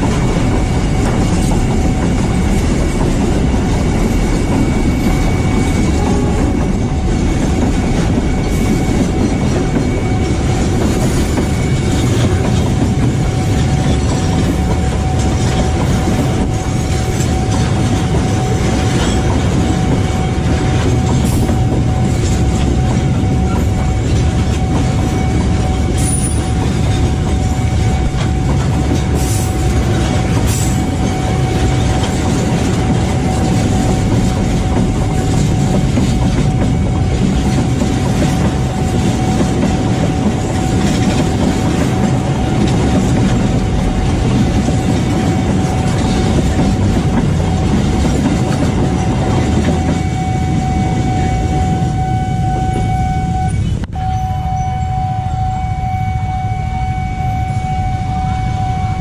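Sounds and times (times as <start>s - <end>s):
freight train wheels rumbling: 0.0s - 59.0s
level-crossing alarm tone: 0.0s - 59.0s.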